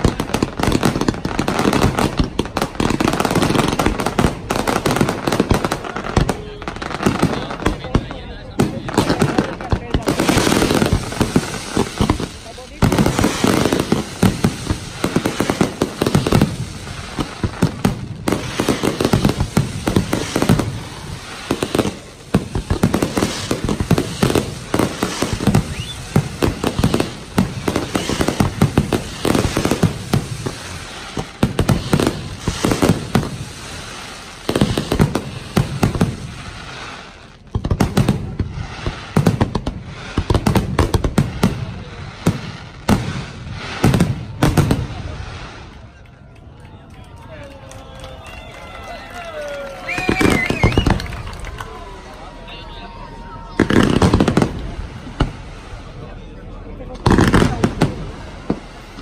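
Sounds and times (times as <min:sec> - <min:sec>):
firework crackle: 0:00.0 - 0:59.0.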